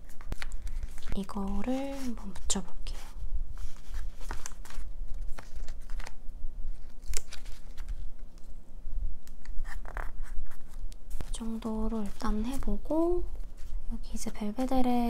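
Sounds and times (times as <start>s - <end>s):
paper crinkling and rustling: 0.0s - 8.6s, 9.4s - 14.7s.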